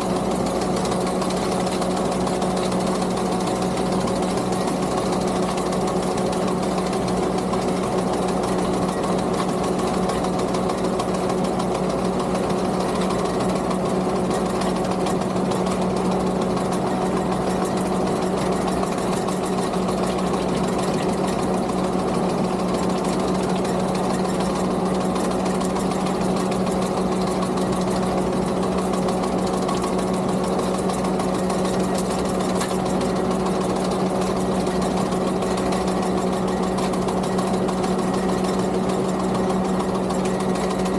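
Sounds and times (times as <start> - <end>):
mower cutter chattering: 0.0 - 40.9
skid steer engine hum: 0.0 - 40.9.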